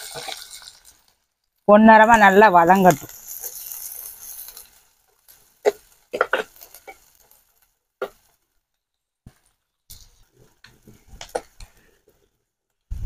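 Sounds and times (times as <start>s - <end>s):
faint sizzling: 0.0s - 12.3s.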